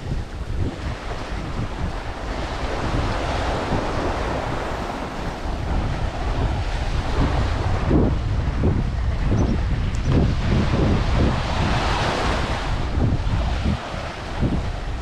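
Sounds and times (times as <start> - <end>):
ocean surf breaking on beach: 0.0 - 15.0
wind rumbling on microphone: 0.0 - 15.0.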